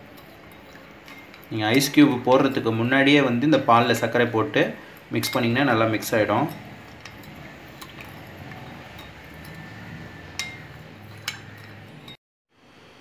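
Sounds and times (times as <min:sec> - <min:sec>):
spoon clinking against glass: 0:00.0 - 0:12.2
spoon stirring in glass bowl: 0:00.0 - 0:12.2.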